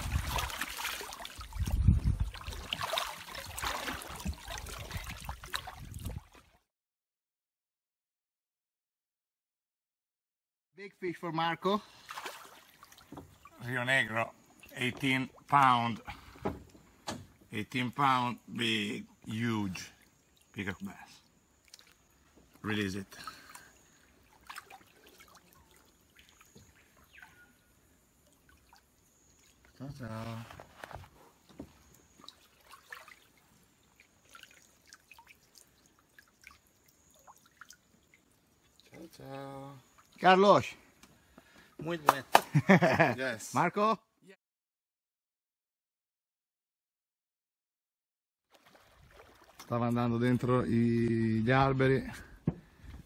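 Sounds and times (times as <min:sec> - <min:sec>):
water splashing and trickling: 0:00.0 - 0:06.7, 0:11.6 - 0:43.4, 0:48.5 - 0:53.0.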